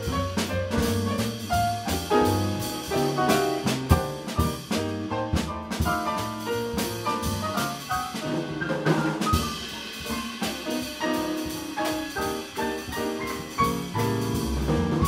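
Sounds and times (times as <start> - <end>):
double bass: 0.0 - 15.0
drum kit: 0.0 - 15.0
grand piano: 0.0 - 15.0.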